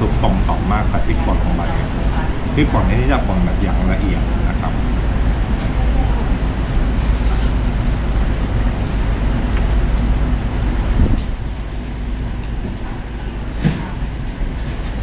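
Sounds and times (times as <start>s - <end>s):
low rumble and hiss of room noise: 0.0s - 15.0s.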